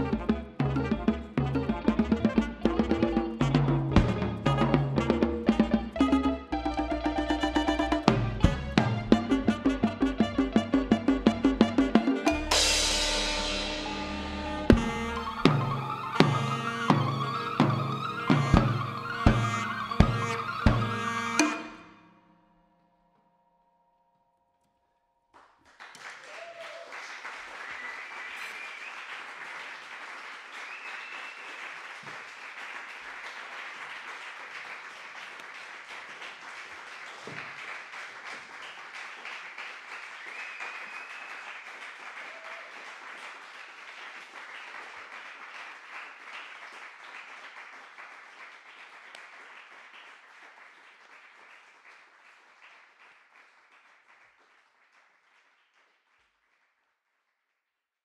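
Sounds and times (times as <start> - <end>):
audience applauding: 1.8 - 21.9, 25.3 - 56.9.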